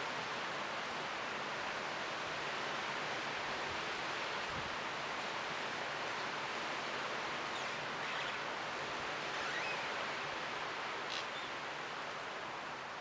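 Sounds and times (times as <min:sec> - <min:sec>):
leaves rustling in wind: 0:00.0 - 0:13.0.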